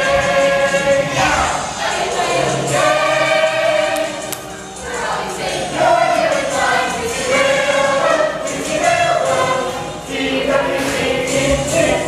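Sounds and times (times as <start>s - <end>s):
group singing in chorus: 0.0s - 12.0s
musical accompaniment: 0.0s - 12.0s.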